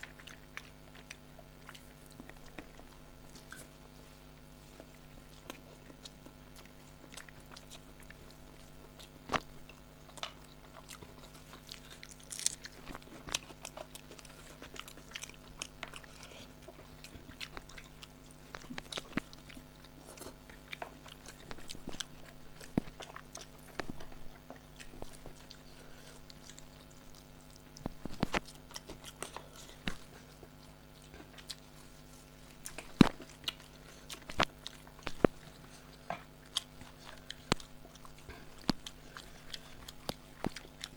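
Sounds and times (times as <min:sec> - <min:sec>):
people chewing food: 0:00.0 - 0:40.9
small clicks and crackles: 0:04.8 - 0:32.0, 0:32.7 - 0:40.9.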